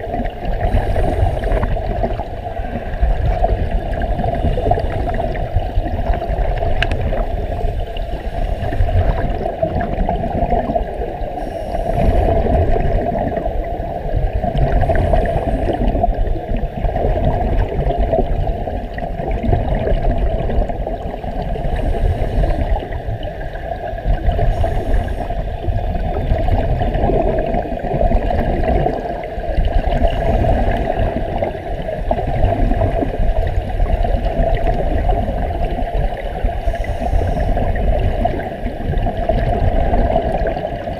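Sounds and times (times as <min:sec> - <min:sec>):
underwater air bubbles gurgling: 0:00.0 - 0:40.9.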